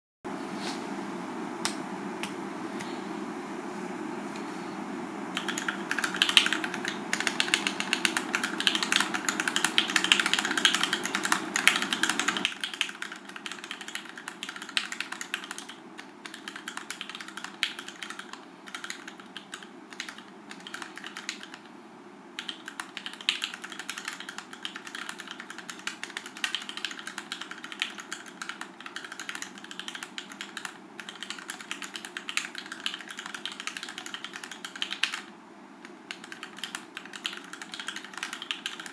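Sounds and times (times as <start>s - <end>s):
mechanical keyboard typing: 5.4s - 21.6s, 22.4s - 38.9s.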